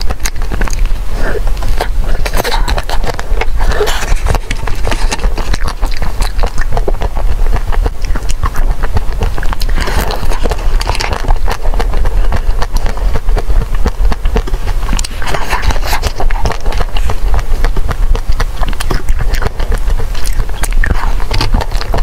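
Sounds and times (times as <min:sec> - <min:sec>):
chewing frozen ice cream: 0:00.0 - 0:22.0
steady low hum: 0:00.0 - 0:22.0.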